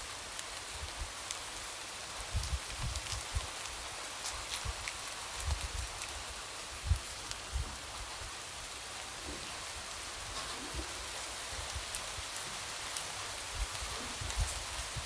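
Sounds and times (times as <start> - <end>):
light rain hissing: 0.0 - 15.0.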